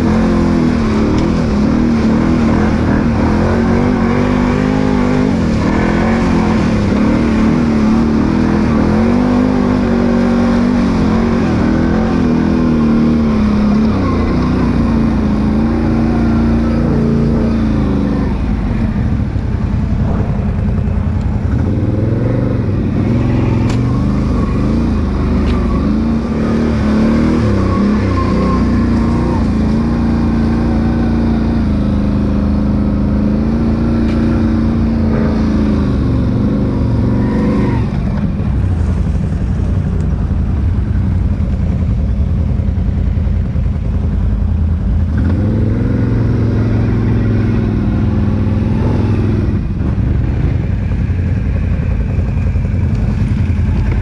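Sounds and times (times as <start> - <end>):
engine revving: 0.0 - 41.9, 44.7 - 54.0.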